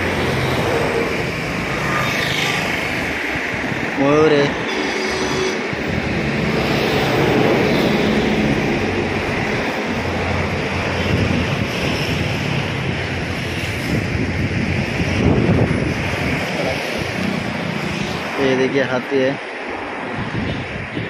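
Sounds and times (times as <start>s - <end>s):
wind noise on microphone: 0.0s - 18.5s, 19.5s - 21.0s.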